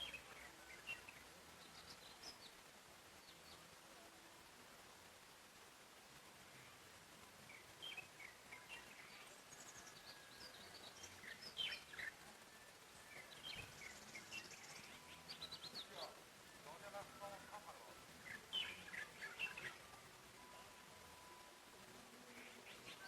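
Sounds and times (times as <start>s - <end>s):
soft steady hiss: 0.0s - 23.0s
songbirds chirping: 0.0s - 23.0s.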